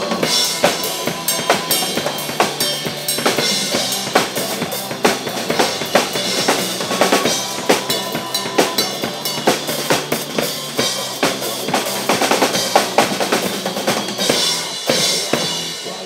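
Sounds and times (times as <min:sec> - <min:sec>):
drum kit groove: 0:00.0 - 0:16.0
pop-rock backing track: 0:00.0 - 0:16.0.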